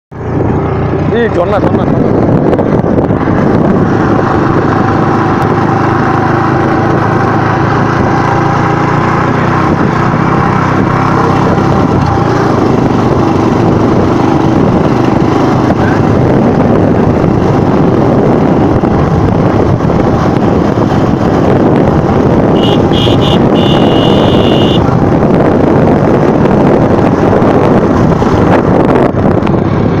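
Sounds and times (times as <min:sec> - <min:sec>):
motorcycle engine running: 0:00.1 - 0:30.0
road and wind noise: 0:00.1 - 0:30.0.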